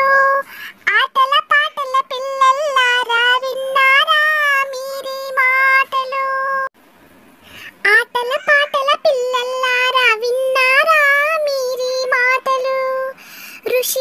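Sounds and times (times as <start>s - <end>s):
high cartoon voice singing: 0.0s - 6.7s, 7.8s - 13.1s.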